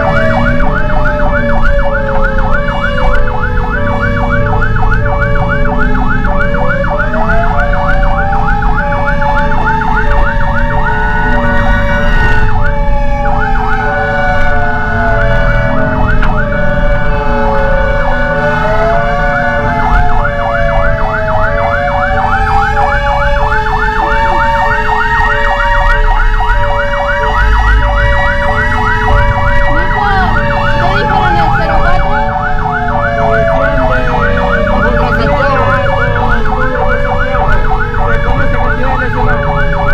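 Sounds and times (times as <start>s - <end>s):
fire engine siren yelp: 0.0s - 39.9s
siren wail rising and falling: 0.0s - 39.9s
truck engine rumble: 0.0s - 39.9s
two-tone siren: 0.0s - 39.9s.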